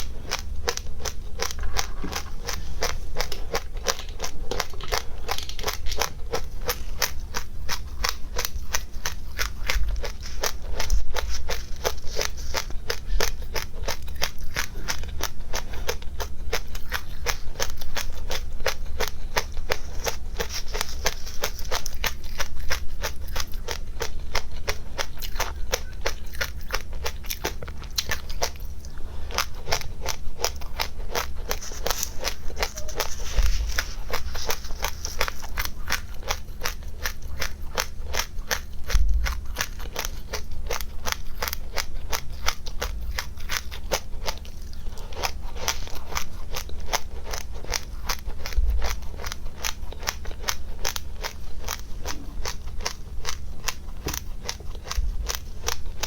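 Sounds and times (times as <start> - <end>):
crunchy seeds being chewed: 0.0 - 56.0.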